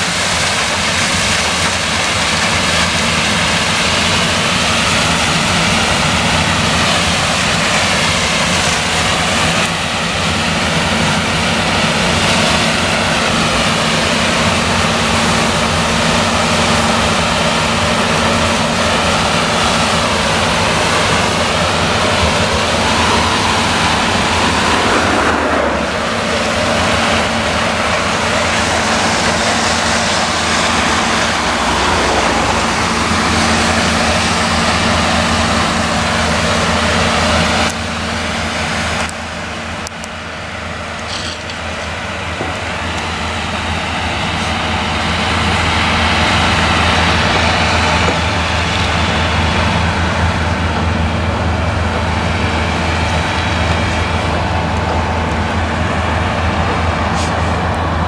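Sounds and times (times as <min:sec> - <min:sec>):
diesel engine droning under load: 0:00.0 - 0:58.0
threshing machinery noise: 0:00.0 - 0:58.0.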